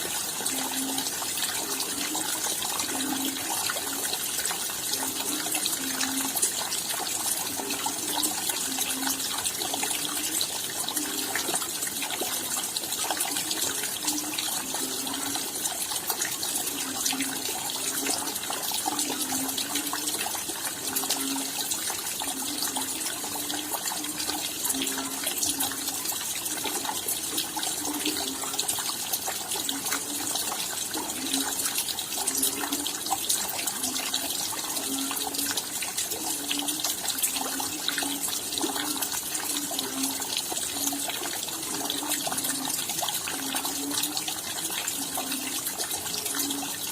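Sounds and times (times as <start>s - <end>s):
running water gurgling: 0.0s - 46.9s.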